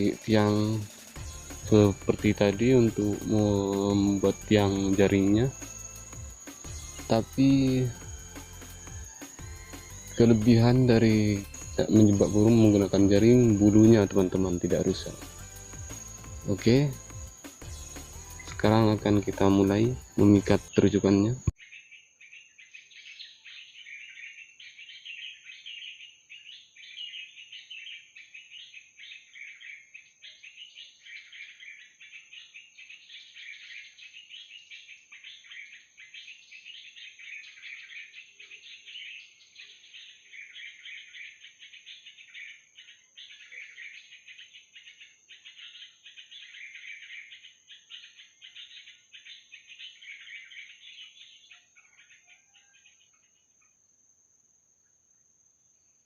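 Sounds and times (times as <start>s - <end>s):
recorded bird chattering: 0.0s - 54.0s.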